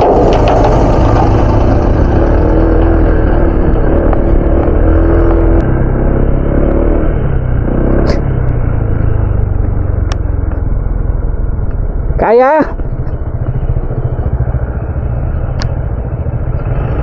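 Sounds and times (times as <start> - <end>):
scooter engine rumbling: 0.0 - 17.0.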